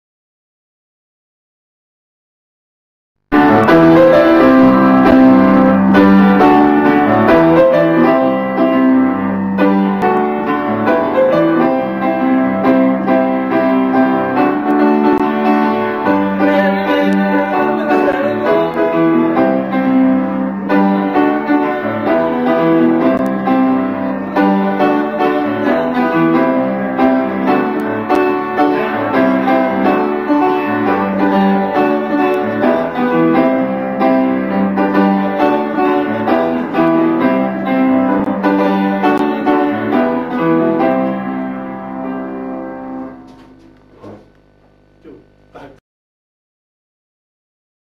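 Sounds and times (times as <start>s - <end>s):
upright piano playing chords: 3.3s - 45.6s.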